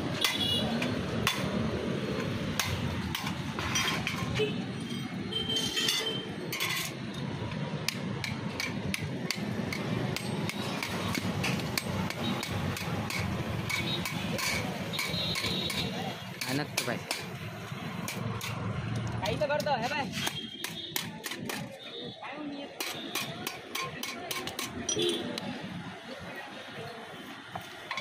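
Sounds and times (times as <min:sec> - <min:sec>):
hand tools tapping and clinking: 0:00.0 - 0:04.4, 0:05.7 - 0:17.4, 0:18.0 - 0:21.8, 0:22.8 - 0:25.5, 0:27.5 - 0:28.0.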